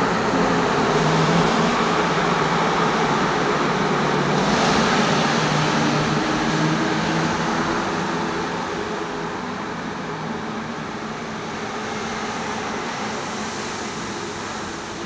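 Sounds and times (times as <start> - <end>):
road noise hiss: 0.0 - 15.0.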